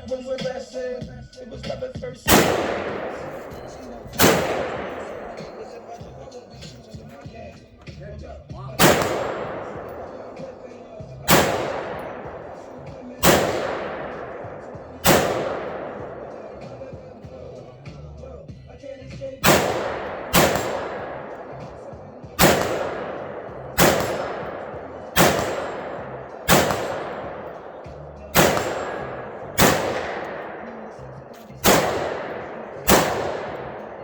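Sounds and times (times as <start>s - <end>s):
gunshots with echo: 2.2s - 18.1s, 19.4s - 34.0s.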